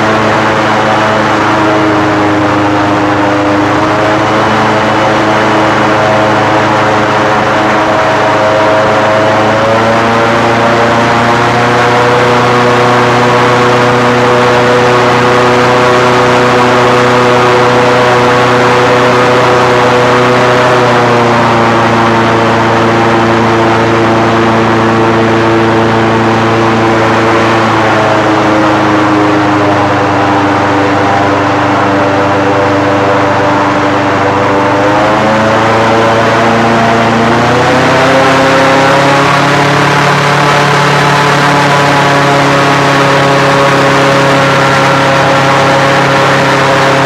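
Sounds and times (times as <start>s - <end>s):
airboat engine and propeller: 0.0s - 47.0s.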